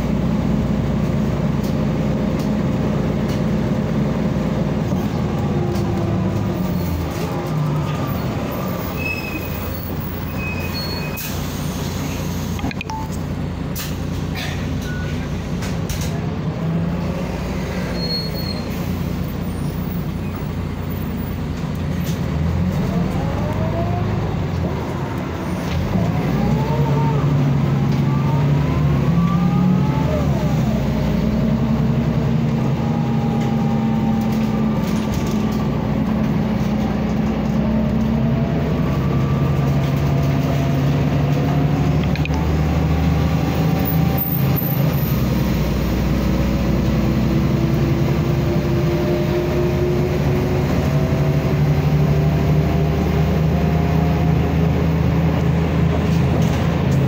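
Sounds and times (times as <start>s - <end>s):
bus diesel engine pulling: 0.0s - 57.0s.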